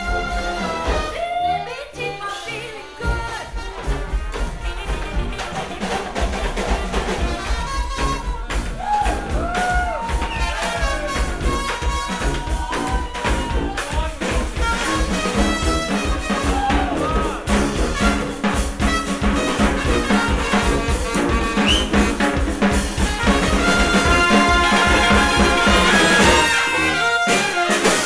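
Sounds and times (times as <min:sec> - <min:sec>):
steady drum beat: 0:00.0 - 0:01.3, 0:02.9 - 0:28.0
trumpets and trombone playing: 0:00.0 - 0:08.5, 0:10.4 - 0:28.0
thudding bass drum: 0:03.0 - 0:26.7.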